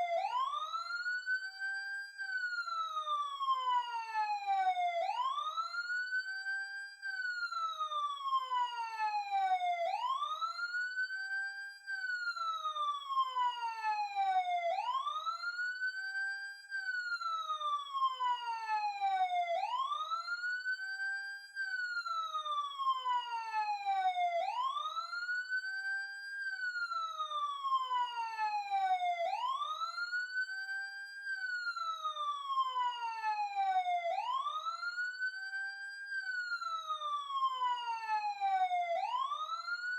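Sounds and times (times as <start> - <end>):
police siren wailing: 0.0 - 1.4, 2.4 - 6.3, 7.4 - 11.0, 12.2 - 21.1, 21.8 - 39.9.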